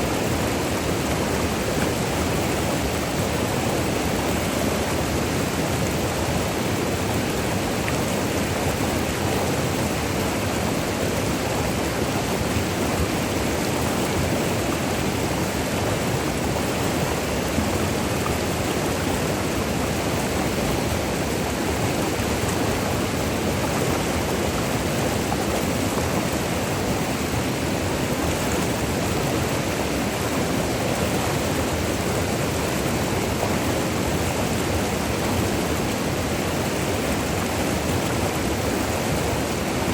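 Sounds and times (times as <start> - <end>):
river water rushing and splashing: 0.0 - 39.9.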